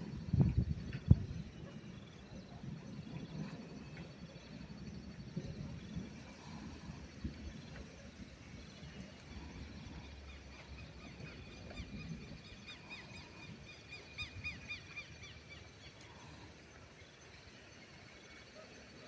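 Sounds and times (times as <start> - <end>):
faint low wind rumble: 0.0 - 19.0.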